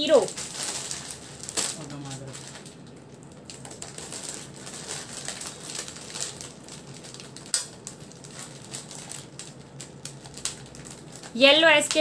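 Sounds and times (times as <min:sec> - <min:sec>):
plastic packets rustling: 0:00.0 - 0:12.0.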